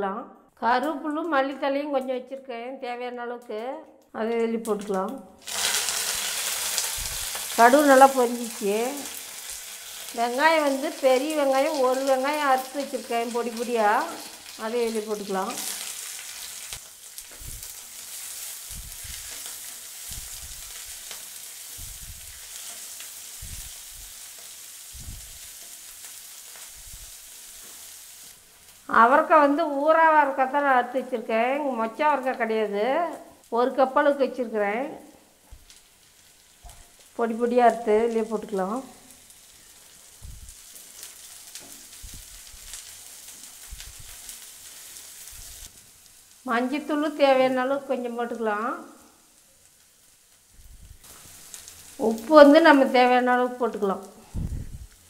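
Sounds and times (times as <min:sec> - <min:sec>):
onion sizzling in hot oil: 0:04.6 - 0:55.0.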